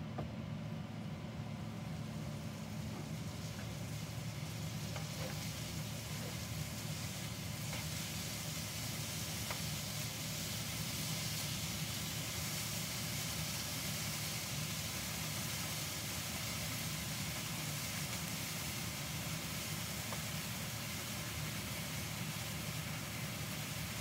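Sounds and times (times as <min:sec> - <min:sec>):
range hood fan humming: 0:00.0 - 0:24.0
food frying in a pan: 0:00.6 - 0:24.0.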